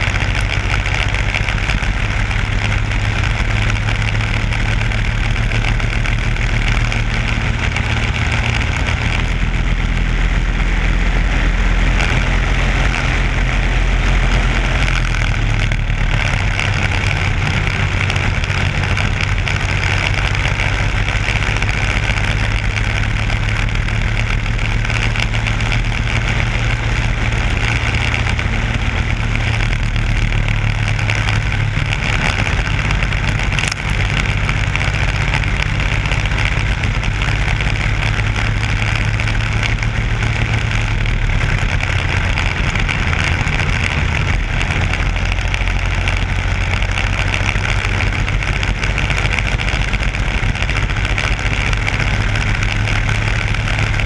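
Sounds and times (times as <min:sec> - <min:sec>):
kart engine running: 0:00.0 - 0:54.0
wind rushing over microphone: 0:00.0 - 0:54.0.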